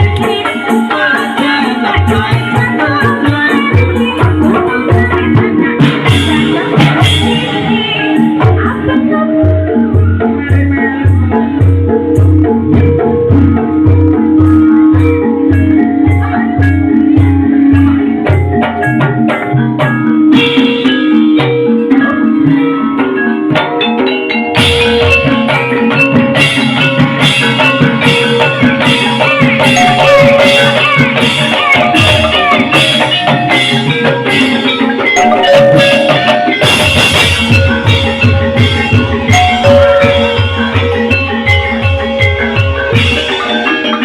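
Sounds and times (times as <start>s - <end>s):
drum strokes: 0.0s - 44.0s
tuned percussion ensemble: 0.0s - 44.0s.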